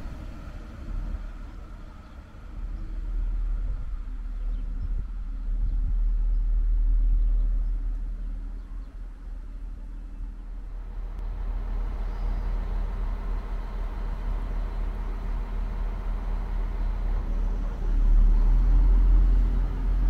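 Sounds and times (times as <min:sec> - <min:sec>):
railcar diesel engines droning: 0:00.0 - 0:20.0.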